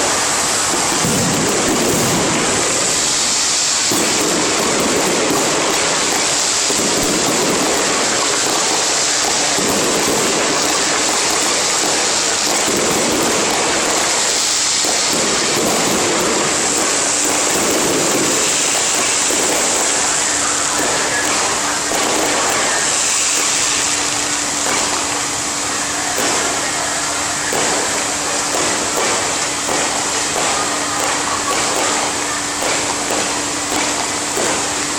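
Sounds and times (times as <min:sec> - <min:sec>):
firecrackers crackling: 0:00.0 - 0:34.9.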